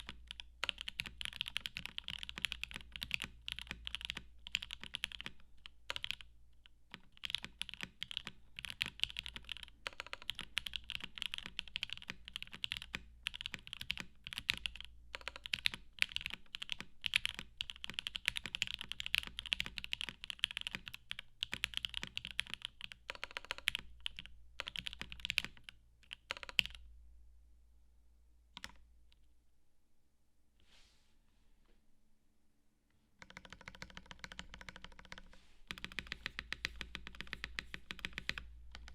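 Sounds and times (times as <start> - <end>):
fast typing on mechanical keyboard: 0.0 - 6.3, 6.9 - 26.8, 33.2 - 38.9.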